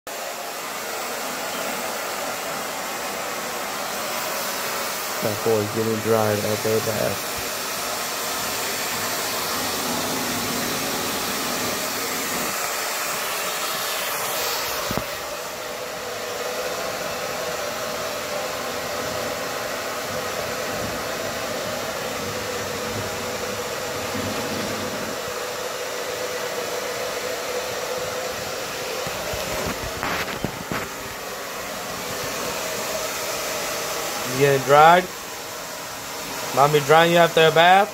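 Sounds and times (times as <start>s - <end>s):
hair dryer running: 0.1s - 37.9s.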